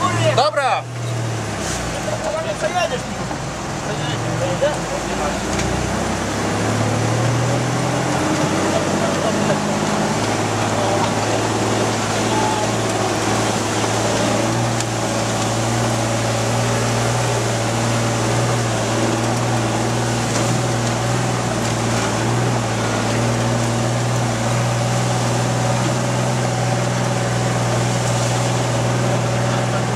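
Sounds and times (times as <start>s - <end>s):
diesel engine drone from cab: 0.0s - 29.9s.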